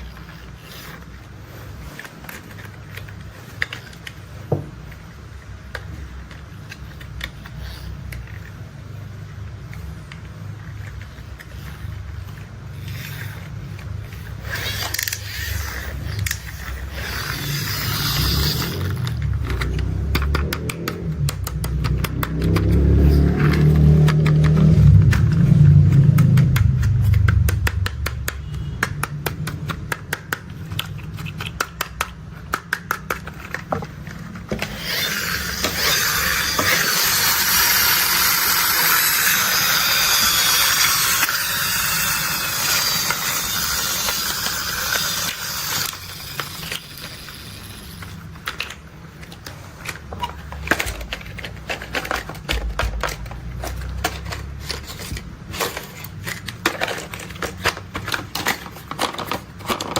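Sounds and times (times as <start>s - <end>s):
plastic toys clicking and rattling: 0.0s - 59.9s.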